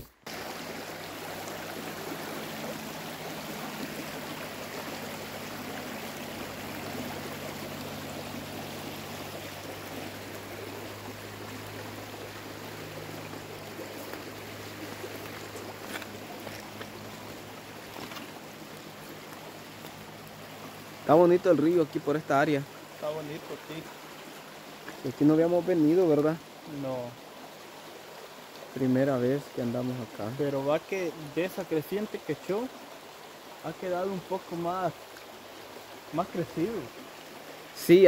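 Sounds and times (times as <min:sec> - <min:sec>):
river flowing over stones: 0:00.0 - 0:38.0.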